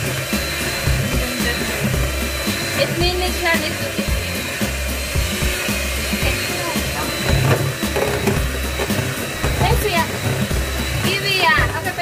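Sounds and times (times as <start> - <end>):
electric hand mixer whisking: 0.0 - 12.0.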